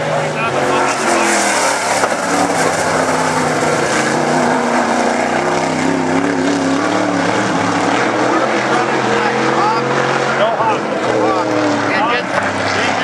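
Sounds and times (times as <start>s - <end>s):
race car engine at speed: 0.0s - 13.0s.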